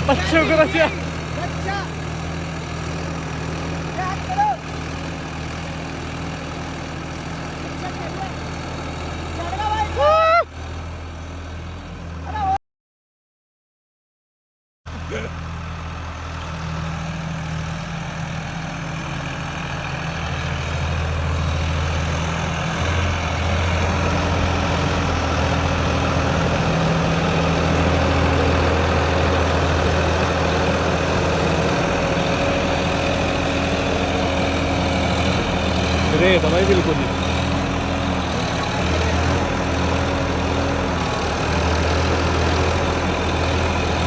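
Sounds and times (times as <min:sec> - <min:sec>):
tractor diesel engine running: 0:00.0 - 0:12.6, 0:14.9 - 0:44.0.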